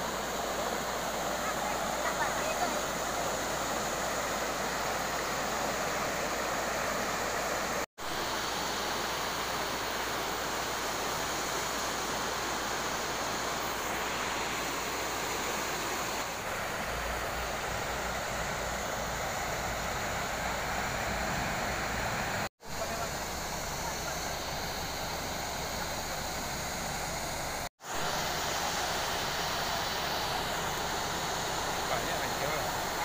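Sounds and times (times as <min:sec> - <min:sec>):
water rushing over rocks: 0:00.0 - 0:23.1, 0:25.5 - 0:33.0.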